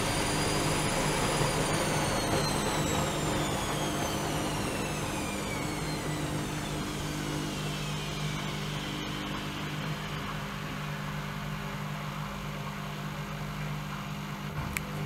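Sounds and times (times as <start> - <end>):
washing machine hum and whine: 0.0 - 15.0.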